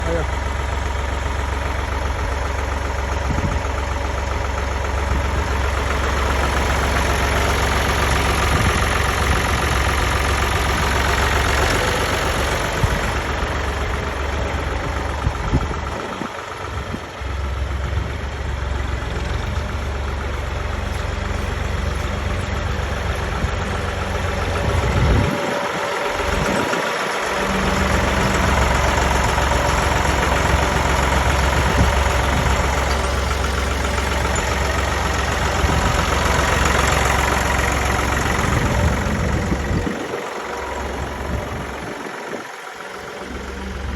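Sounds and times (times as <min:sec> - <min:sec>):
tractor engine rumbling: 0:00.0 - 0:43.9.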